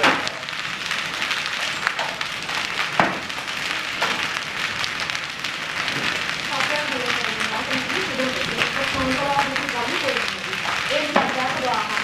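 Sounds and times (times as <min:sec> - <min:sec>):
hailstones pelting hard surfaces: 0:00.0 - 0:12.0.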